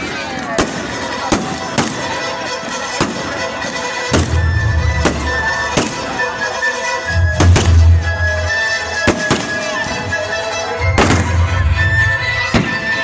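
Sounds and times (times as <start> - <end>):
fireworks bangs: 0.0 - 6.4, 7.1 - 8.2, 8.9 - 10.2, 10.8 - 13.0.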